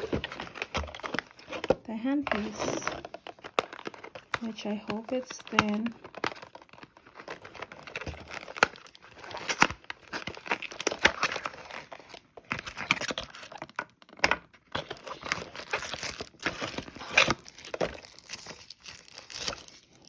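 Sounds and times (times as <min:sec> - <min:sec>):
packaging crinkling and tearing: 0:00.0 - 0:20.0.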